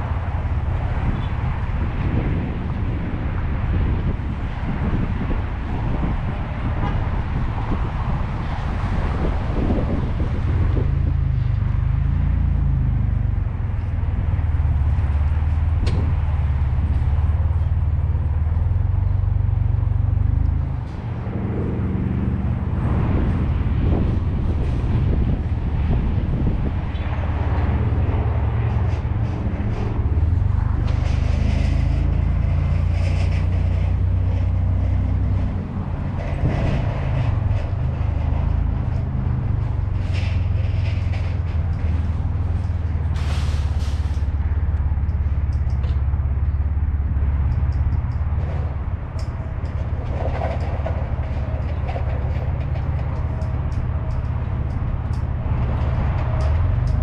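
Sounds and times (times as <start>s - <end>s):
bumps and rattles: 0.0s - 57.0s
vehicle rumbling over asphalt: 0.0s - 57.0s.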